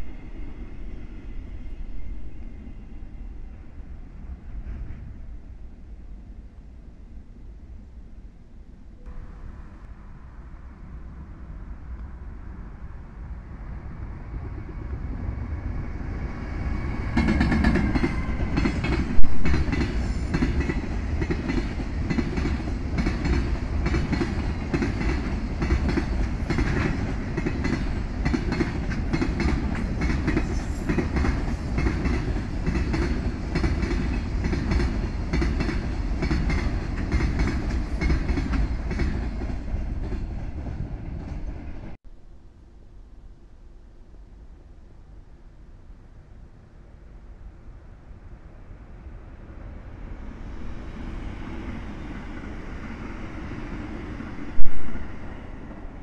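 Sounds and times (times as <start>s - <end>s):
freight train passing: 0.0s - 8.0s, 8.6s - 42.0s, 45.3s - 56.0s.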